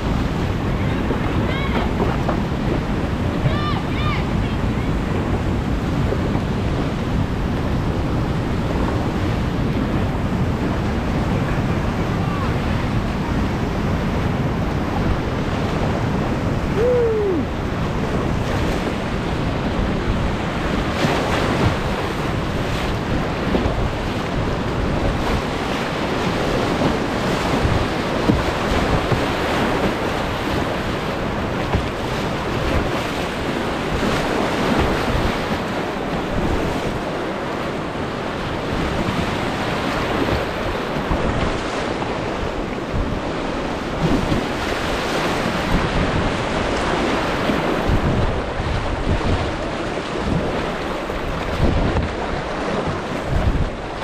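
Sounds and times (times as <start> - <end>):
whitewater rapids rushing: 0.0 - 7.8, 8.5 - 54.0
waves splashing over a kayak: 0.0 - 54.0.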